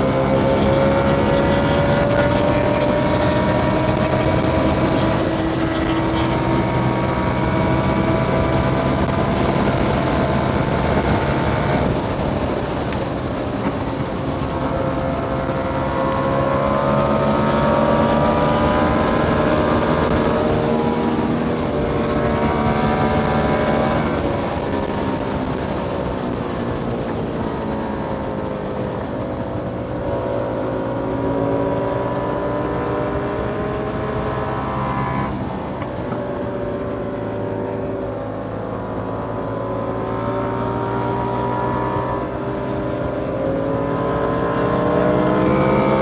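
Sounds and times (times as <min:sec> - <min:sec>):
wind rush: 0:00.0 - 0:38.4
motorcycle engine under load: 0:00.0 - 0:46.0.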